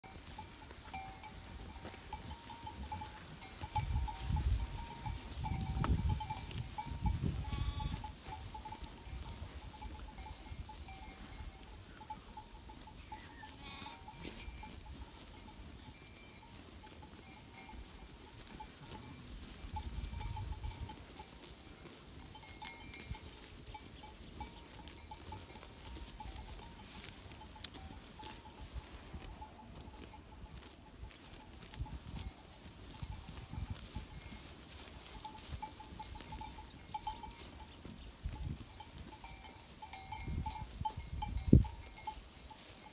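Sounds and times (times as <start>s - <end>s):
sheep bells clinking: 0.0s - 42.9s.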